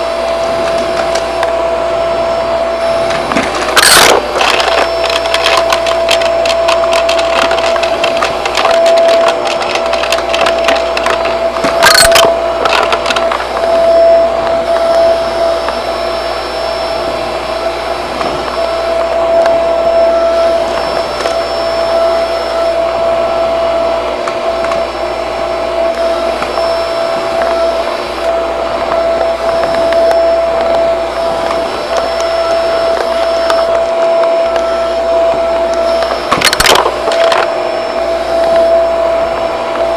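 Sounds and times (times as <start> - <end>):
debris crackling through vacuum: 0.0 - 39.9
vacuum cleaner whine: 0.0 - 39.9.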